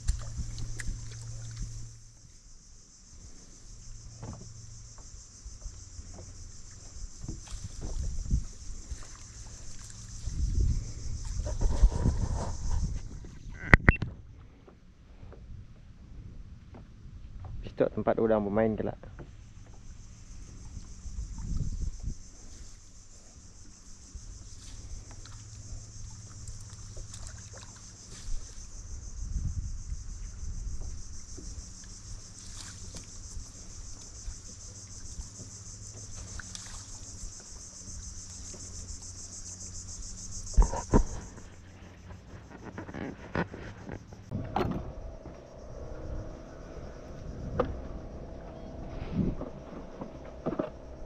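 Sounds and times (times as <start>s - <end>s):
high-pitched insect chorus: 0.0s - 13.8s, 17.7s - 51.0s
low steady hum: 0.0s - 18.1s, 19.0s - 51.0s.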